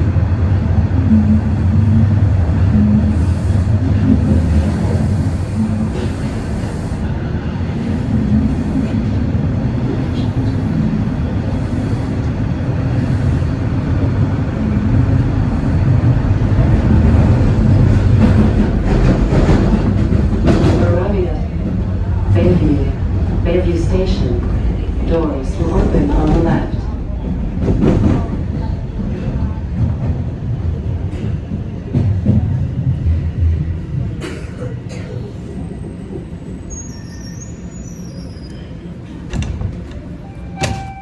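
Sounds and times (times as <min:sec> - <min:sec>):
subway train rumbling in tunnel: 0:00.0 - 0:41.0.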